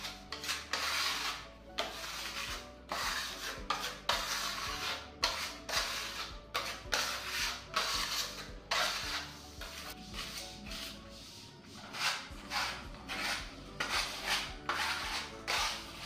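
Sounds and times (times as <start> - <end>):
putty blade scraping a wall: 0.0 - 16.0.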